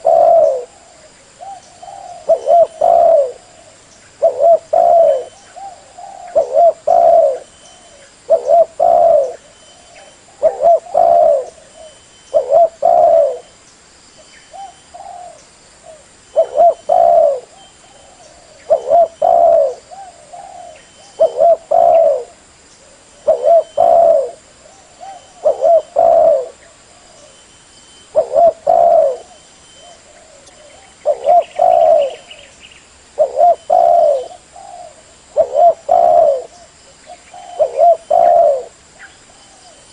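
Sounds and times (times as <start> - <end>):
dove cooing: 0.0 - 13.5, 14.5 - 27.4, 28.1 - 32.6, 33.2 - 39.9.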